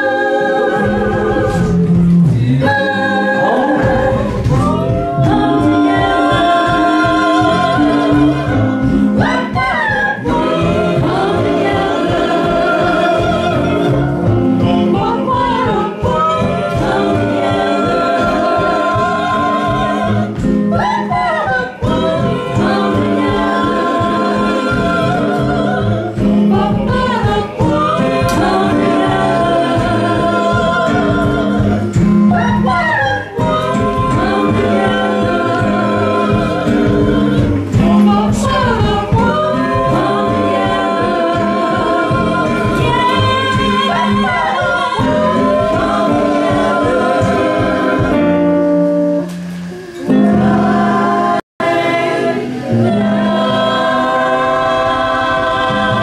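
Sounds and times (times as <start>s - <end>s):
acoustic guitar: 0.0s - 56.0s
choir singing in harmony: 0.0s - 56.0s
plucked upright bass: 0.0s - 56.0s.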